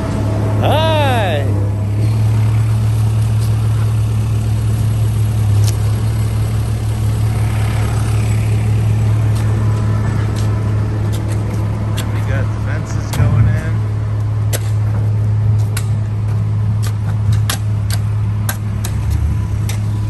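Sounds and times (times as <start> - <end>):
truck engine running steadily: 0.0 - 20.0.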